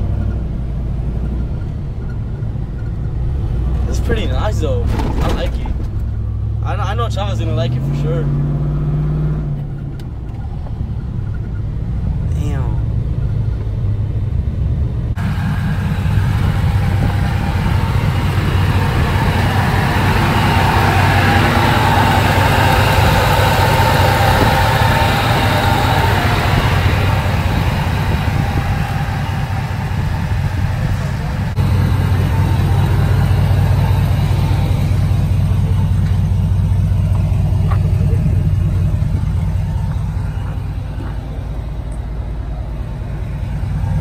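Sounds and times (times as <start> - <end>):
road and tyre noise: 0.0 - 44.0
truck engine rumble: 0.0 - 44.0.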